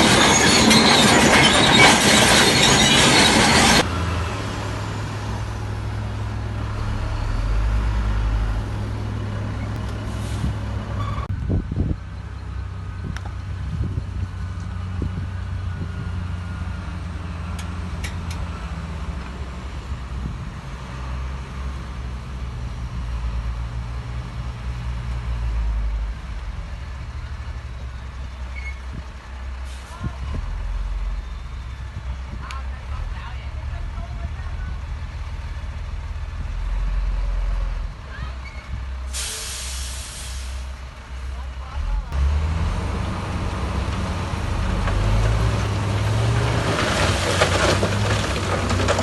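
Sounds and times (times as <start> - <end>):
heavy diesel machinery engine rumble: 0.0 - 49.0.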